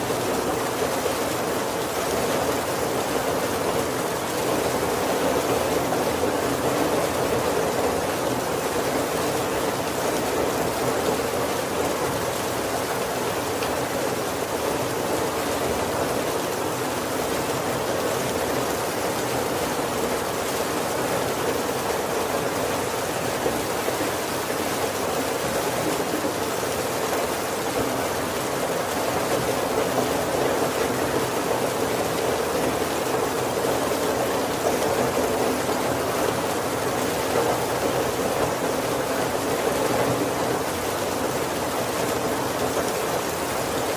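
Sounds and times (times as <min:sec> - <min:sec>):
heavy rain on a wooden roof: 0:00.0 - 0:43.9.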